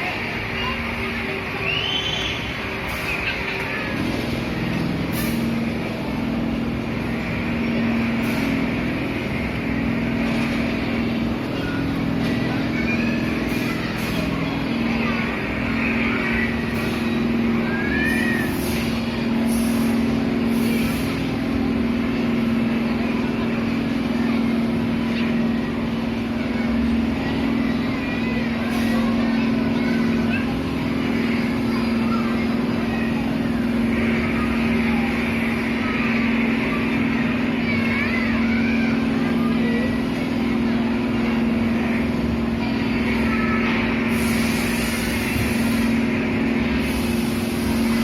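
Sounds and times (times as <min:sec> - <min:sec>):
crowd chatter with children: 0:00.0 - 0:48.0.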